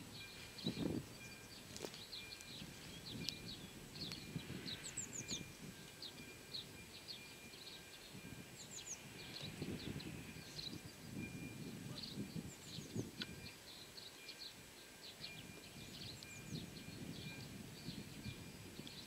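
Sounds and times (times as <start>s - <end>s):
low rumble of outdoor noise: 0.0s - 19.0s
small songbirds chirping: 0.0s - 19.0s.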